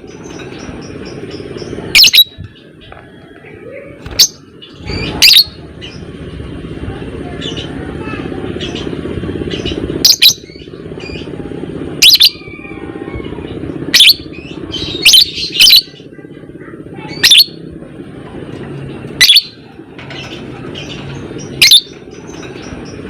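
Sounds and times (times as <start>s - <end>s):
lovebird buzzy chatter: 0.0s - 23.0s.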